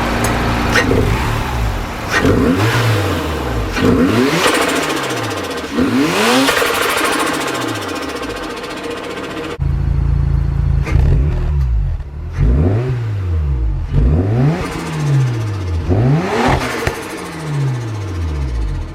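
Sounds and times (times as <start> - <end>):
rotary engine revving: 0.0 - 9.6, 10.8 - 18.9.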